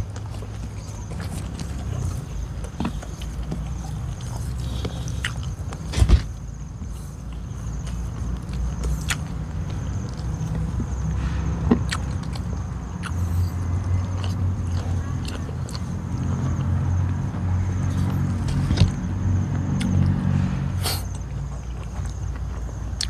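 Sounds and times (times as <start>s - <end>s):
chewing with mouth clicks: 0.0s - 5.9s, 6.8s - 19.0s, 19.7s - 20.2s, 21.0s - 23.0s
low engine-like rumble: 0.0s - 23.0s.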